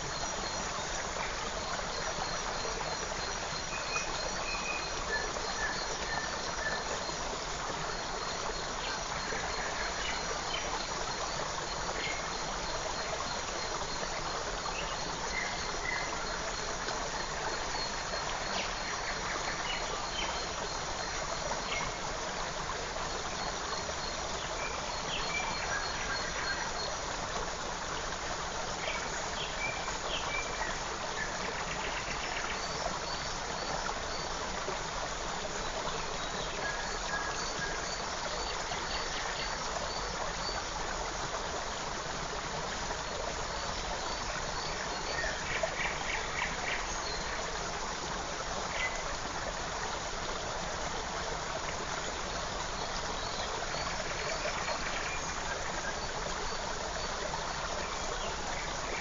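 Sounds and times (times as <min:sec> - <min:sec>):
creek rushing and babbling: 0:00.0 - 0:59.0.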